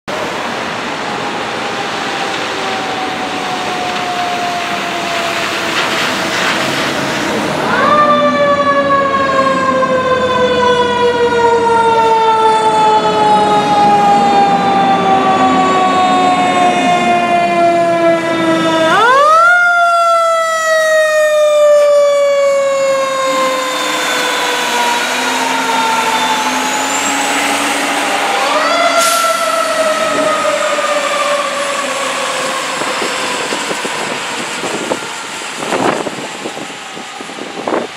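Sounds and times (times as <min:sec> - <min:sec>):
fire engine siren wailing: 0:00.1 - 0:37.9.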